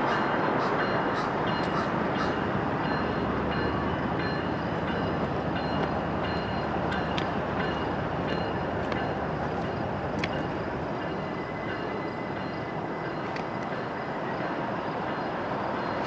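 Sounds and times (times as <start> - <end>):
locomotive engines rumbling: 0.0 - 16.0.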